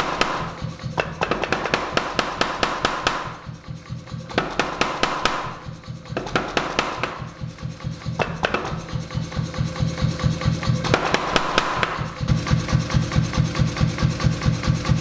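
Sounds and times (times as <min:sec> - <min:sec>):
power hammer striking steel: 0:00.0 - 0:13.4.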